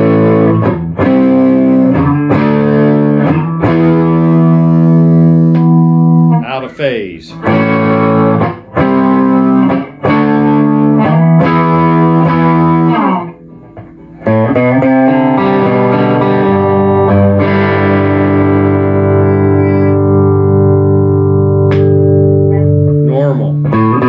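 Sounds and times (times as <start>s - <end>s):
electric guitar chords: 0.0s - 24.0s.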